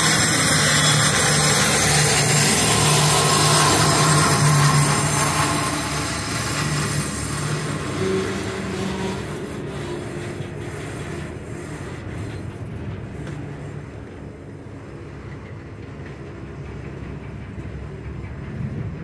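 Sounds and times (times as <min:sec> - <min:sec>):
diesel train rumbling: 0:00.0 - 0:19.0.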